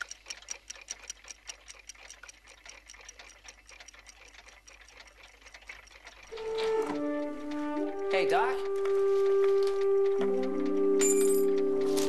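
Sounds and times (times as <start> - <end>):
many clocks ticking: 0.0 - 12.0.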